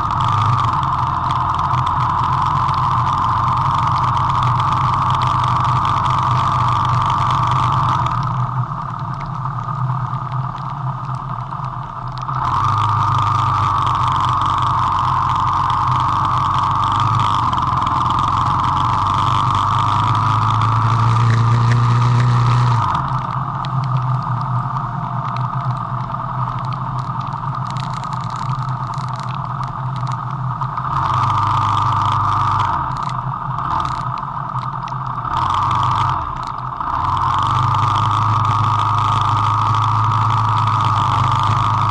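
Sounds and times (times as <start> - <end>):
car engine accelerating: 0.0 - 41.9
road noise inside car: 0.0 - 41.9.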